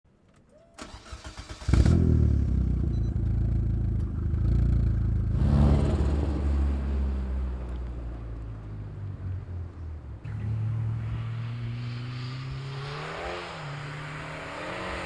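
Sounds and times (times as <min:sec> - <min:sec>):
car engine idling and revving: 0:01.0 - 0:15.0.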